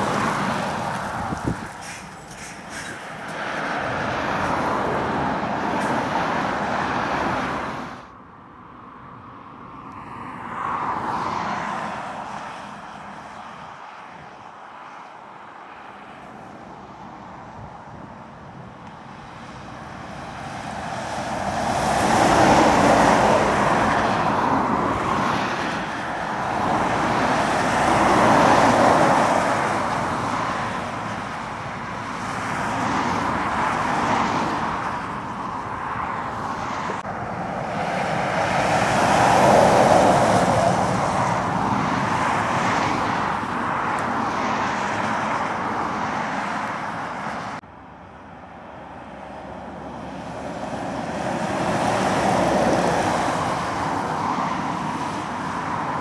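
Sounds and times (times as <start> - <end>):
lorries and cars passing: 0.0 - 56.0.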